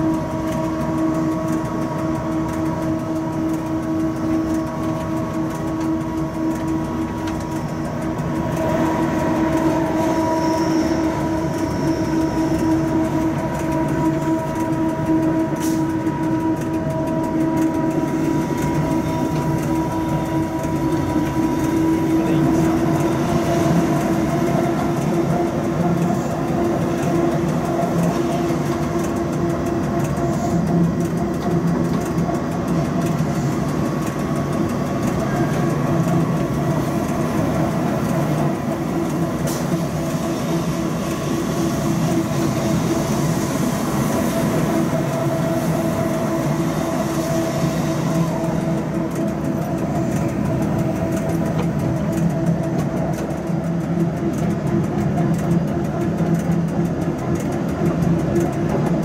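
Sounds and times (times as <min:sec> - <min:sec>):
electric locomotive hum: 0:00.0 - 0:59.0
wheels rolling on rails: 0:00.0 - 0:59.0.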